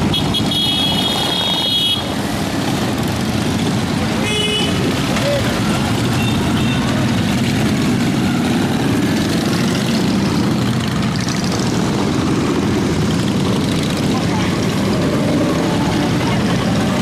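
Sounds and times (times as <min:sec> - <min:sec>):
motorcycle engines running: 0:00.0 - 0:17.0.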